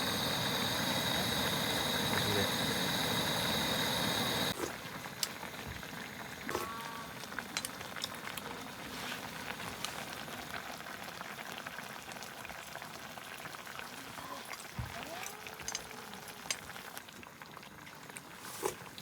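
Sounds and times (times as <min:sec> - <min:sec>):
food bubbling and sizzling: 0:00.0 - 0:19.0.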